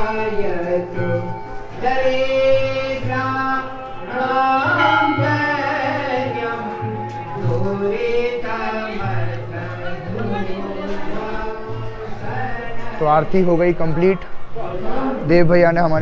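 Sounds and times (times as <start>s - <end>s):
musical accompaniment: 0.0s - 13.0s
devotional hymn singing: 0.0s - 16.0s.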